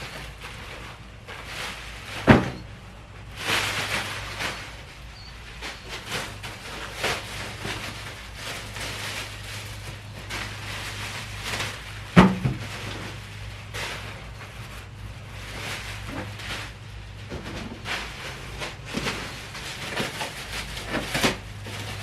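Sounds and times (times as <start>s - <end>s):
rustling: 0.0s - 22.0s.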